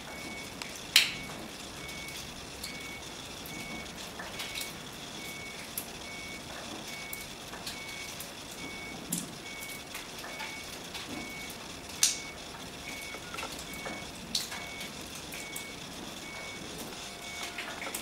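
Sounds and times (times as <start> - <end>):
reversing alarm beeping: 0.0 - 18.0.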